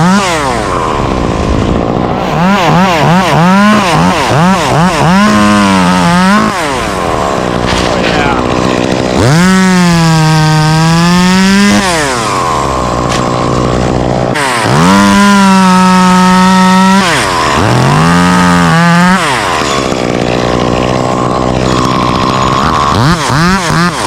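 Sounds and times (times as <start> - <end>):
chainsaw revving: 0.0 - 24.0.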